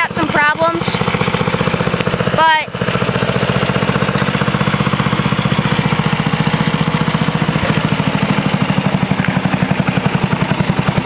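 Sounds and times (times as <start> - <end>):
go-kart engine idling: 0.0 - 11.0.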